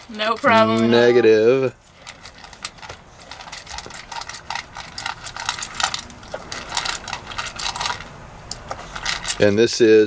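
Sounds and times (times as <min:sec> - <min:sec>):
dog chewing and lapping: 0:00.0 - 0:10.0.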